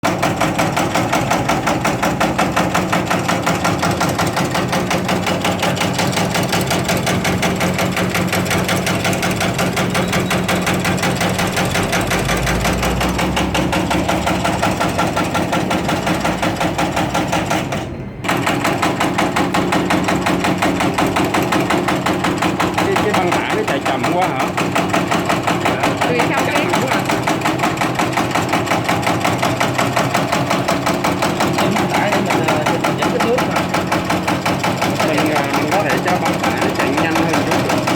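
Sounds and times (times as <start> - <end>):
cutter chopping rhythmically: 0.0 - 37.9.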